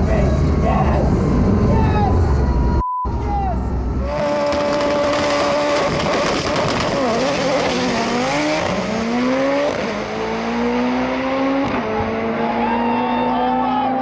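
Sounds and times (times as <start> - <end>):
drag car engines accelerating: 0.0 - 2.8, 3.6 - 14.0.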